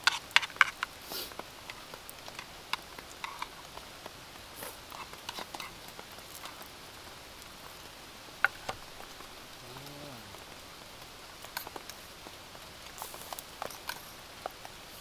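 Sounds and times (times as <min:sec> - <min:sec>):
light rain: 0:00.0 - 0:15.0.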